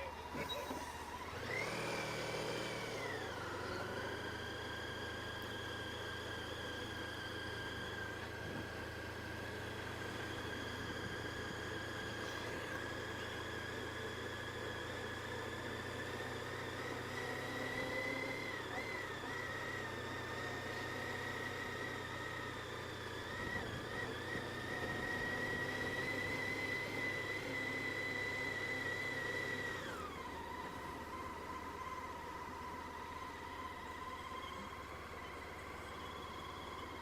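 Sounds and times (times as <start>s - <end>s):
motorcycle engine whine: 0.0s - 37.0s.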